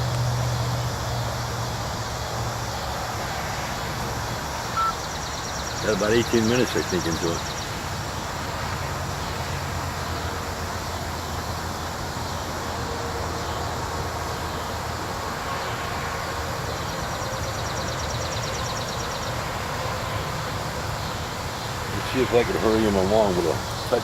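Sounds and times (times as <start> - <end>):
rushing background noise: 0.0 - 24.0.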